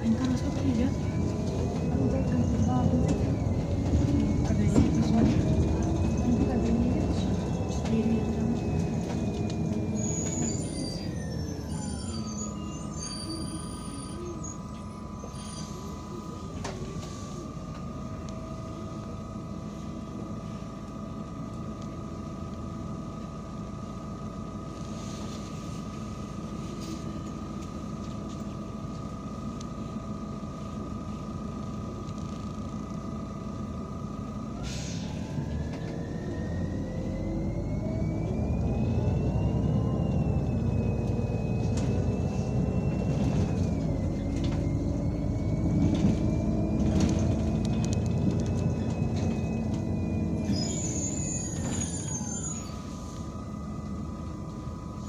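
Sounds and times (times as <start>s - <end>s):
bus drivetrain whine: 0.0s - 55.0s
diesel engine idling: 0.0s - 55.0s.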